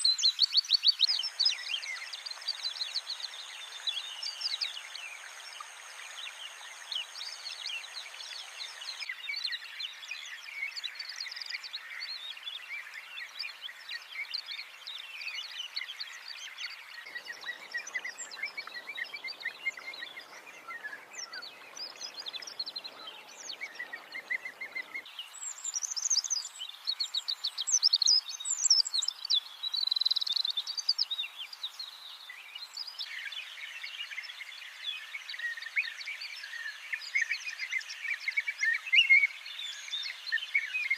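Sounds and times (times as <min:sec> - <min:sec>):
wild birds chirping and trilling: 0:00.0 - 0:40.9.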